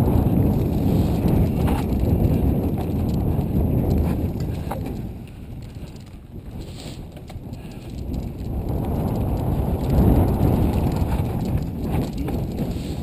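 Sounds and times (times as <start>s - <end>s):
bike tyres rumbling on dirt: 0.0s - 13.0s.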